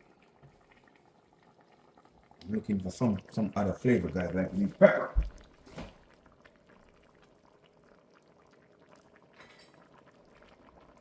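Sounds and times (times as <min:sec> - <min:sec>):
pot of food simmering: 0:00.0 - 0:11.0.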